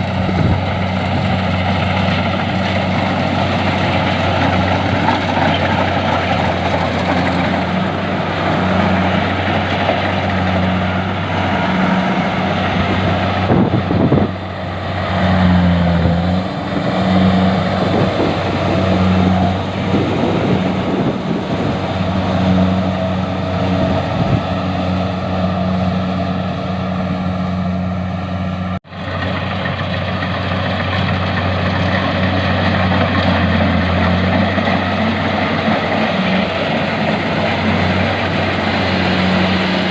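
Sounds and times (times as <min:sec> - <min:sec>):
harvesting machine engine running: 0:00.0 - 0:39.9
mechanical noise of grain: 0:00.0 - 0:39.9.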